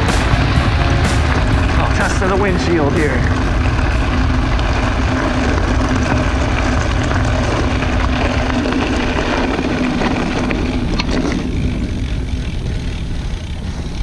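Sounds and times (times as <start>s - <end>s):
bike tyres rolling over gravel: 0.0s - 14.0s
steady low hum: 0.0s - 14.0s
wind rumble on microphone: 0.0s - 14.0s.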